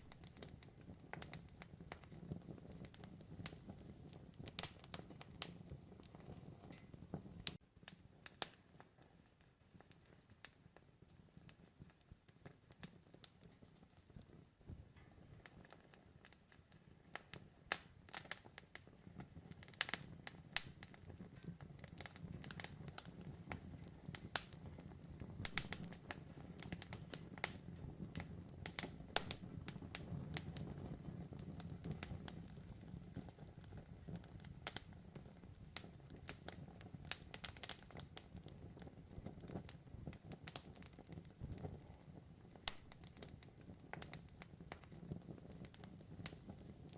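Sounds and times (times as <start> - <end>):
campfire crackling and popping: 0.0 - 46.9
low rumble of burning wood: 0.0 - 46.9.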